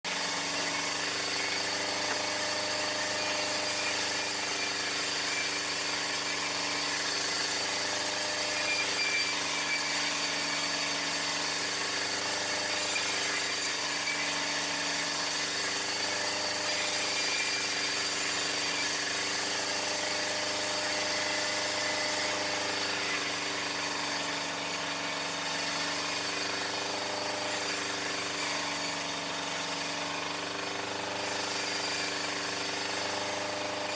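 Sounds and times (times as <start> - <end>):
sawmill machinery drone and rattle: 0.1 - 33.9.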